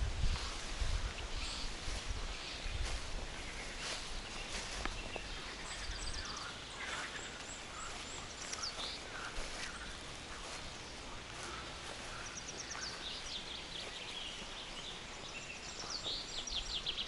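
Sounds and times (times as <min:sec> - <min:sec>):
birds chirping and trilling: 0:00.0 - 0:17.0
footsteps on forest path: 0:00.0 - 0:17.0.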